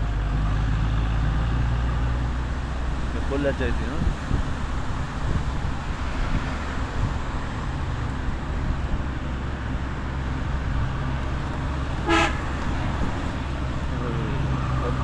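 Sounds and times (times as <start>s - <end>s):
engine hum: 0.0s - 15.0s
road rumble: 0.0s - 15.0s.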